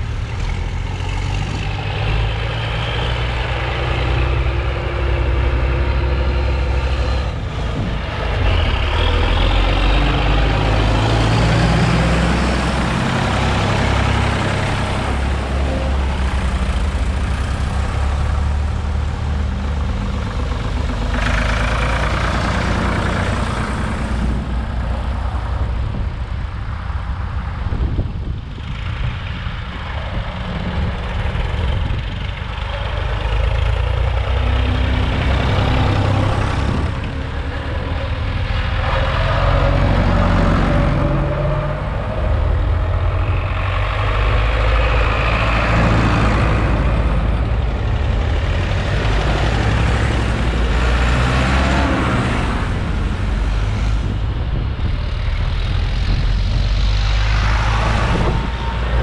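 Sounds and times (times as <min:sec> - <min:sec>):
tractor engines driving past: 0:00.0 - 0:59.0.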